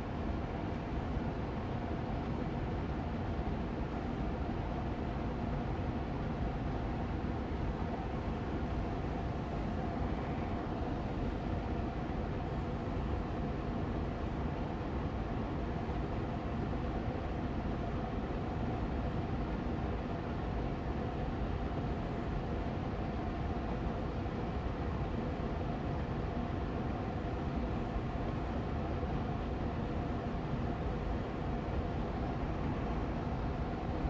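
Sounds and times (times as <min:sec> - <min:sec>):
air purifier fan running: 0:00.0 - 0:34.0.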